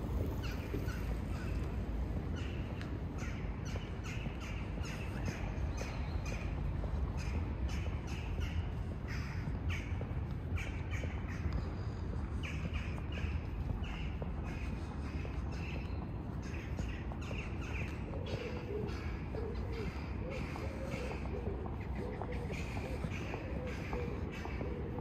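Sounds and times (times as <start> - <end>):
birds calling: 0.2 - 25.0.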